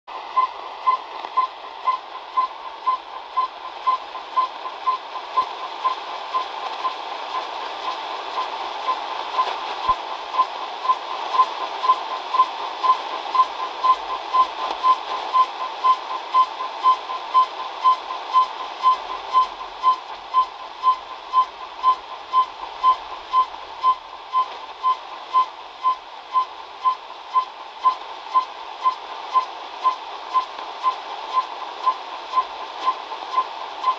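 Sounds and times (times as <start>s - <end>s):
radar tone pulses on radio: 0.1s - 33.9s
radio static hiss: 0.1s - 33.9s.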